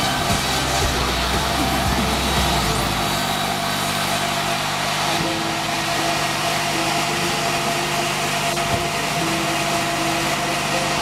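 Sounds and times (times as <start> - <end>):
band saw cutting wood: 0.0 - 11.0.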